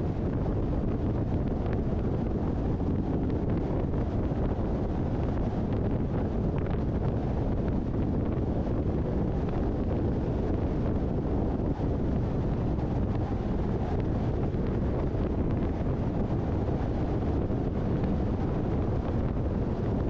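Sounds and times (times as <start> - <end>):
car road and wind noise: 0.0 - 20.0
wind buffeting the microphone: 0.0 - 20.0.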